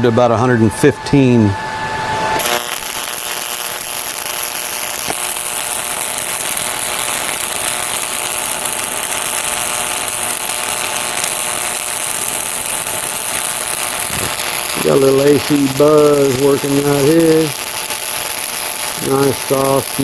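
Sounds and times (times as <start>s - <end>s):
welding arc crackling: 2.4s - 20.0s.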